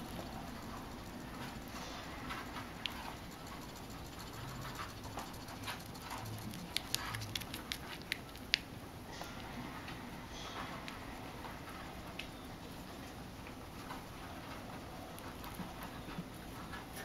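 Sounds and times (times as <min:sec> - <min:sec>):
rabbit kit suckling: 0:00.0 - 0:17.0.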